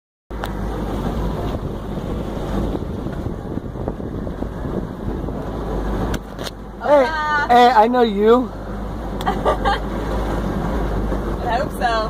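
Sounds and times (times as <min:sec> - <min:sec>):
wind buffeting microphone: 0:00.3 - 0:12.0.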